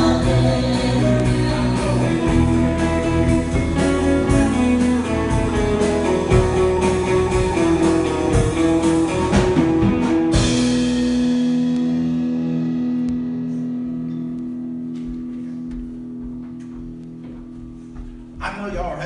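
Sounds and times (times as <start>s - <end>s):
live band with guitar and drums: 0.0s - 19.0s.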